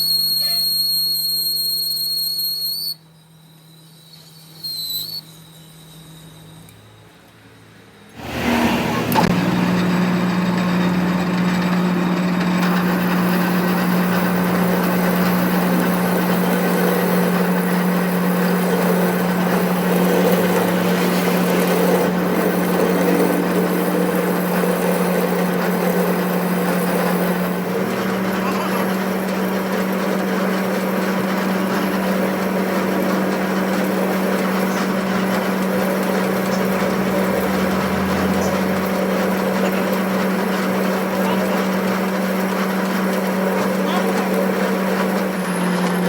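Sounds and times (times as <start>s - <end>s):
workshop machine humming and whirring: 0.0s - 46.0s.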